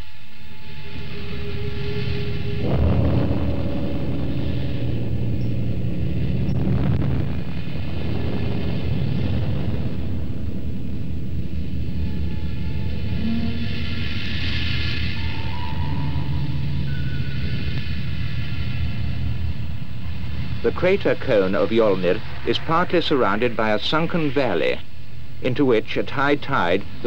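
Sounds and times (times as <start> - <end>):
volcanic eruption roar: 0.7 - 24.8.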